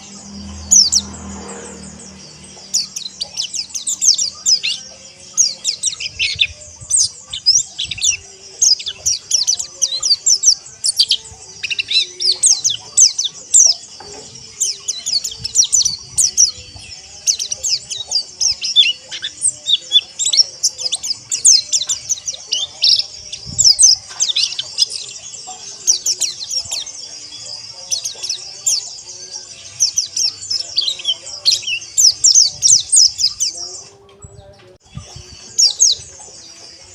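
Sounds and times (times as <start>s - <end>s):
birds chirping in chorus: 0.0s - 36.9s.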